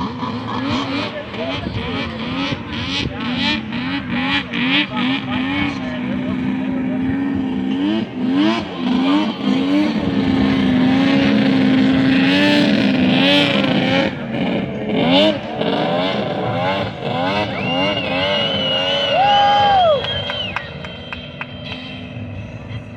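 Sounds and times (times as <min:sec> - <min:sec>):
snowmobile engine revving: 0:00.0 - 0:22.9.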